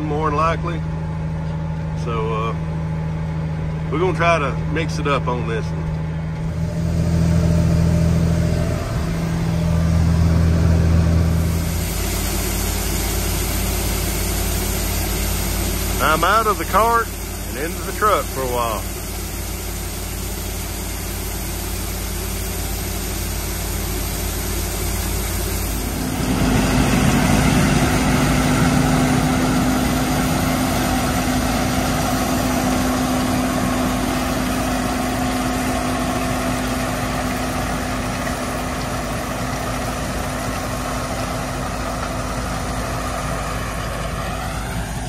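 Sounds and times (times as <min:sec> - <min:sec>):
diesel truck engine running: 0:00.0 - 0:45.0
loud steady hum: 0:00.0 - 0:45.0.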